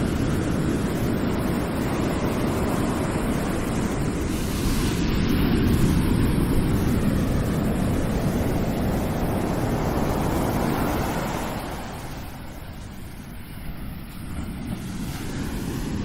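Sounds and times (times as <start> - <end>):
surf breaking on a beach: 0.0 - 16.0
wind rumbling on microphone: 0.0 - 16.0.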